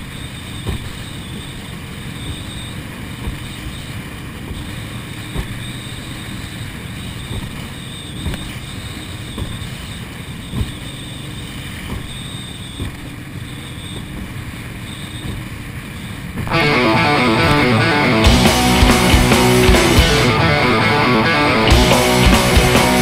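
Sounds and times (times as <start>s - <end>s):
hull thumping on waves: 0.0s - 23.0s
rushing water and spray: 0.0s - 23.0s
speedboat engine: 0.0s - 23.0s.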